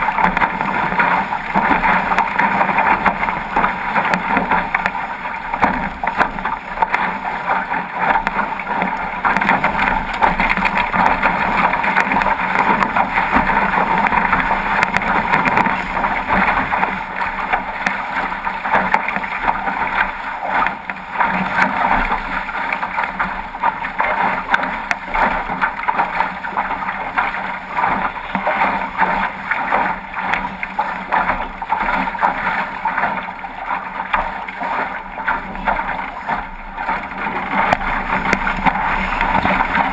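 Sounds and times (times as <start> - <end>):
water splashing past hull: 0.0 - 39.9.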